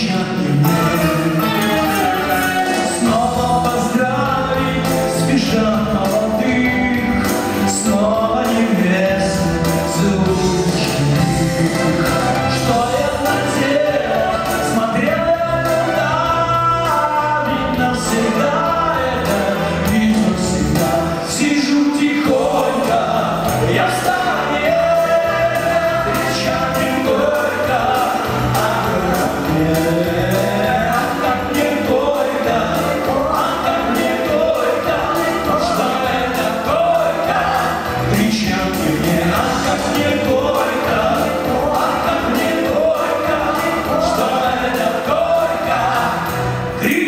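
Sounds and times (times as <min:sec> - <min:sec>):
bass guitar: 0:00.0 - 0:47.0
group harmony vocals: 0:00.0 - 0:47.0
keyboard: 0:00.0 - 0:47.0
male lead vocal: 0:00.0 - 0:47.0.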